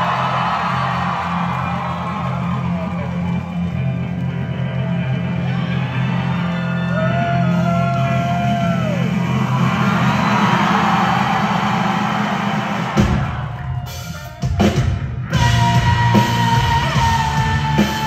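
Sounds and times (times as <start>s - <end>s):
rock band playing loudly: 0.0s - 18.0s.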